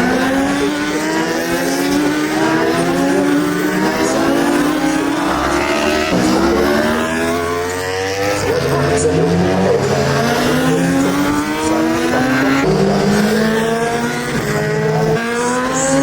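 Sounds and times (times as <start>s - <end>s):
superbike engines accelerating: 0.0s - 16.0s.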